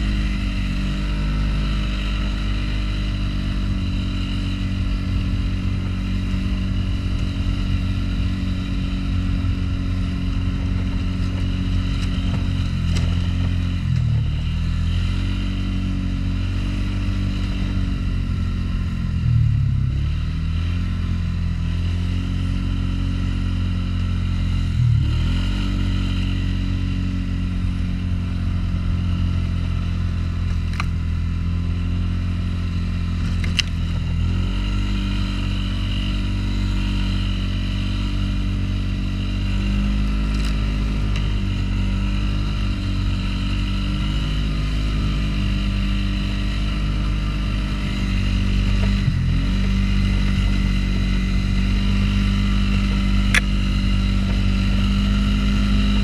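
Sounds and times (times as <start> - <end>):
atv engine pushing snow: 0.0 - 56.0.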